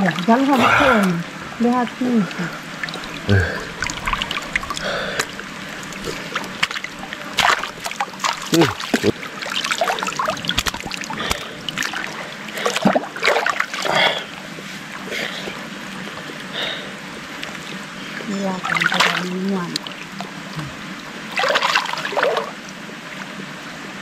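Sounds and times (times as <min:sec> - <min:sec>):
water splashing and dribbling: 0:00.0 - 0:24.0.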